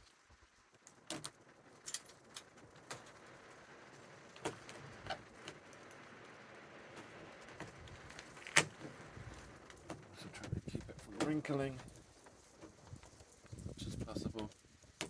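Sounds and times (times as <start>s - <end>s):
faint steady hiss: 0.0s - 15.0s
tape clicks and crackles: 0.0s - 15.0s.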